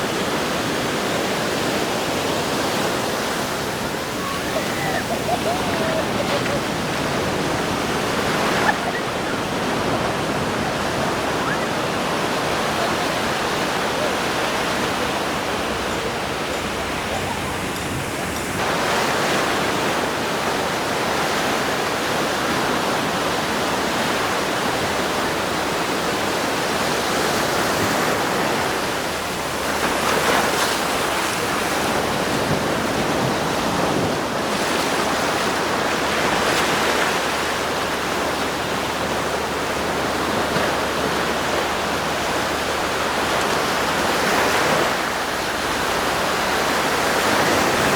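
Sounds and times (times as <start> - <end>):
sea surf breaking on a beach: 0.0 - 47.9.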